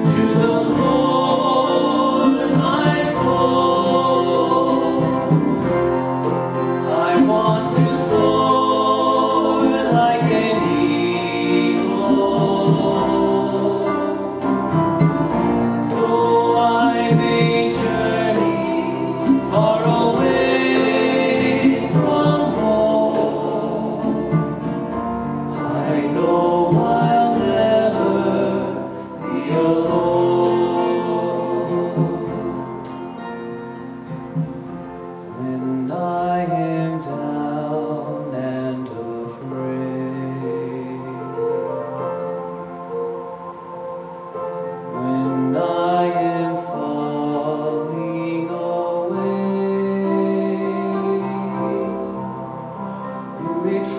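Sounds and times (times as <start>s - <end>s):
gospel-style singing: 0.0s - 53.9s
instrumental accompaniment: 0.0s - 53.9s.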